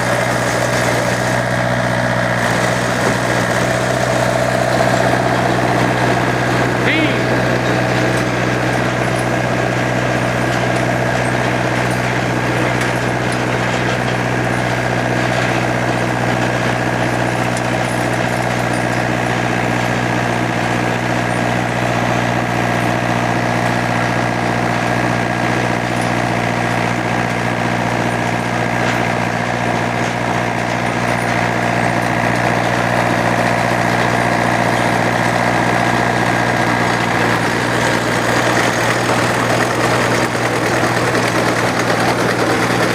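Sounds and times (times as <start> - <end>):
engine droning steadily: 0.0 - 42.9.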